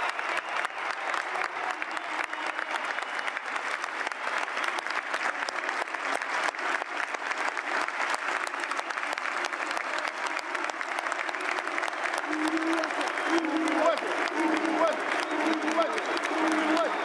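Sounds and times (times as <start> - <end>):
close hand claps: 0.0 - 17.0
stadium crowd applauding: 0.0 - 17.0.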